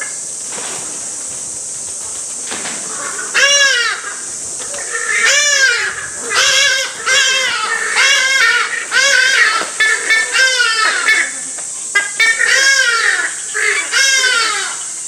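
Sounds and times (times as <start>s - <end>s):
ibis harsh calls: 0.0s - 15.0s
steady high hiss: 0.0s - 15.0s.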